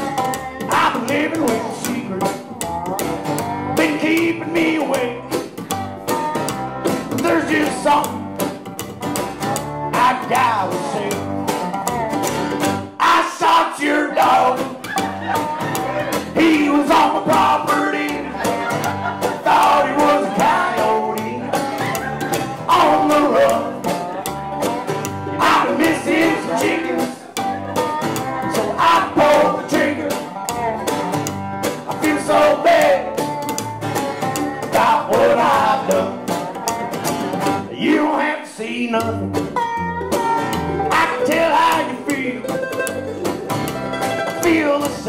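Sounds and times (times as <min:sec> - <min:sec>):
acoustic guitars: 0:00.0 - 0:45.0
plucked upright bass: 0:00.0 - 0:45.0.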